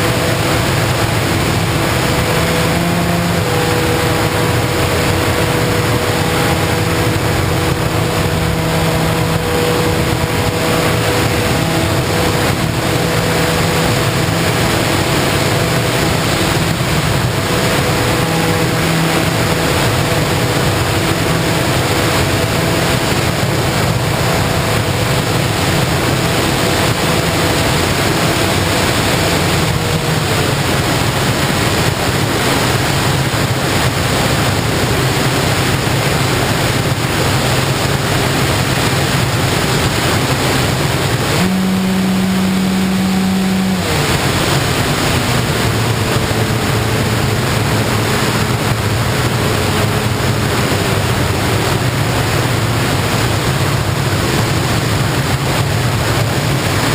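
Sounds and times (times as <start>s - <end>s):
air rushing over microphone: 0.0s - 56.9s
motor and propeller tone: 0.0s - 56.9s.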